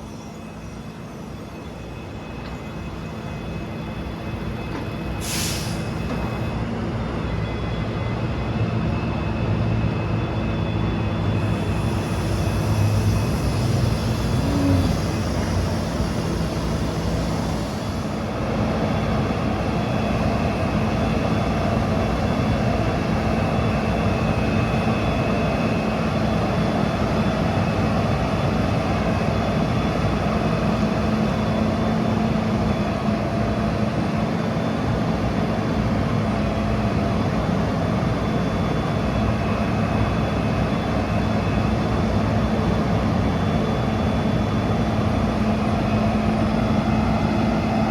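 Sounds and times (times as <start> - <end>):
engine whine: 0.0 - 47.9.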